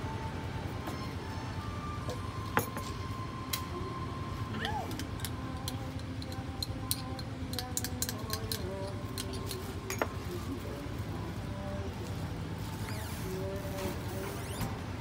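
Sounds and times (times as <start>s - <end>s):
faint music: 0.0s - 15.0s
street hum: 0.0s - 15.0s.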